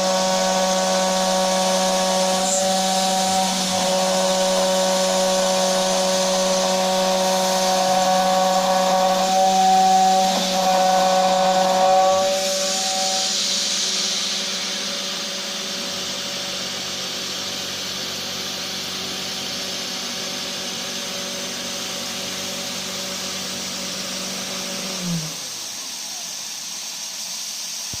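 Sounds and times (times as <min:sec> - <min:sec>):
spindle motor humming: 0:00.0 - 0:26.8.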